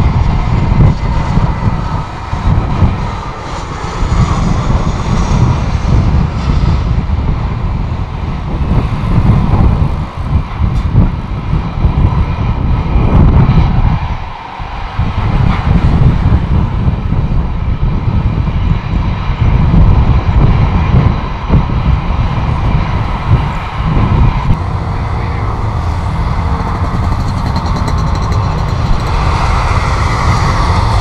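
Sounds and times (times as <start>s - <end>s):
jet airliner engine rumble: 0.0s - 31.0s.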